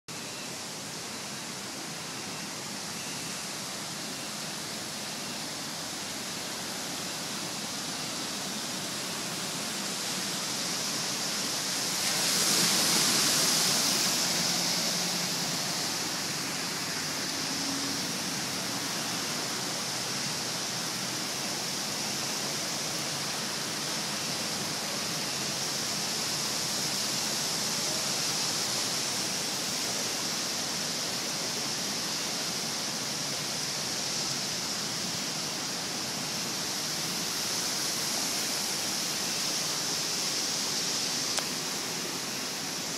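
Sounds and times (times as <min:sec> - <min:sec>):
floodwater rushing across street: 0:00.1 - 0:42.9.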